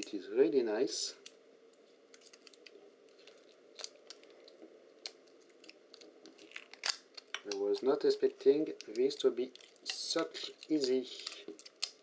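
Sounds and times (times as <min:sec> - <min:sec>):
metal foil crackling: 0:01.0 - 0:12.0.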